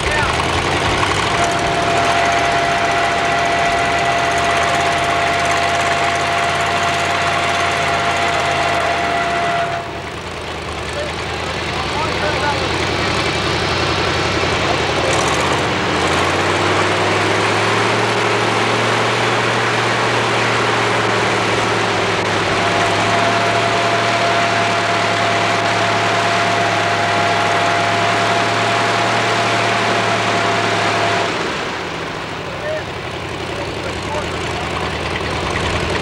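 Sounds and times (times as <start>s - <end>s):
car engine humming: 0.0s - 36.0s
thin steady whine: 0.0s - 36.0s.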